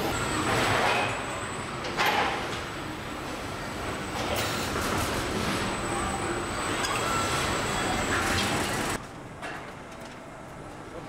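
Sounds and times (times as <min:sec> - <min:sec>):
factory mechanical din: 0:00.0 - 0:11.0.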